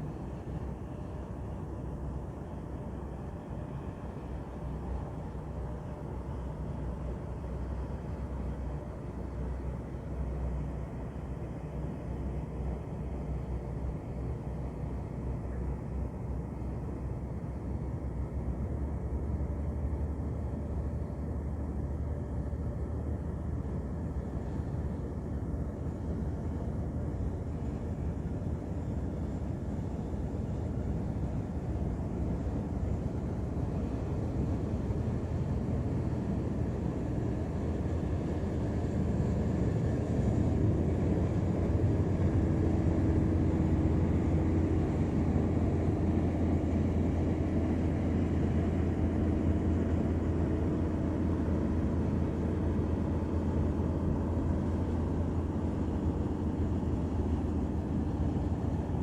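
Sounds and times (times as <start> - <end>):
ship engine droning: 0.0 - 59.0.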